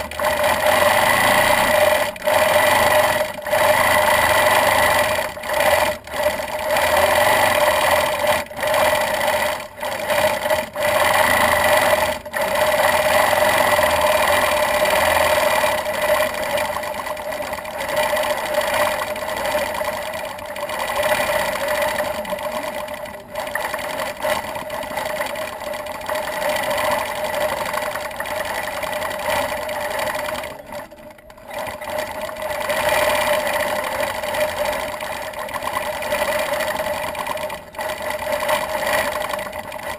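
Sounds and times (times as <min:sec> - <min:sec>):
quilting machine stitching: 0:00.0 - 0:39.9.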